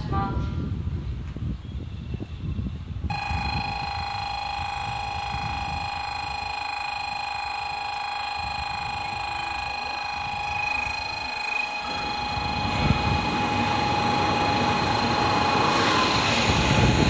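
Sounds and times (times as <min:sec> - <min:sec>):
pulsing buzzer-like warning tone: 0:03.1 - 0:17.0.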